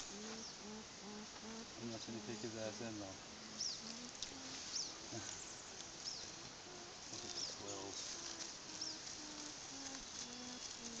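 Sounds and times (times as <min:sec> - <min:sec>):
small bird chirping: 0:00.0 - 0:11.0
steady hiss: 0:00.0 - 0:11.0.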